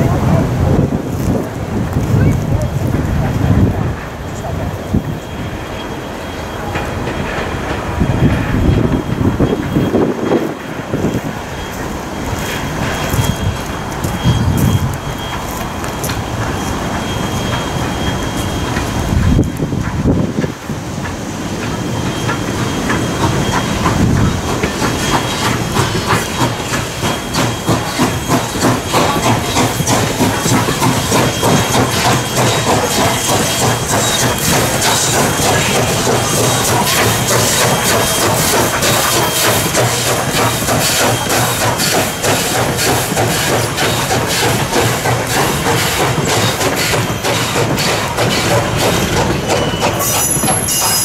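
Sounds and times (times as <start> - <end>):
steam locomotive running past: 0.0 - 51.0.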